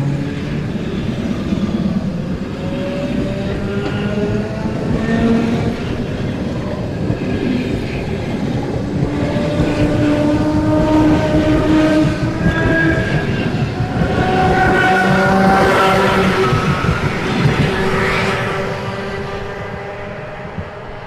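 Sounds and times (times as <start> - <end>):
electric train wheels rumbling: 0.0 - 21.0
steady tones shifting pitch: 0.0 - 21.0.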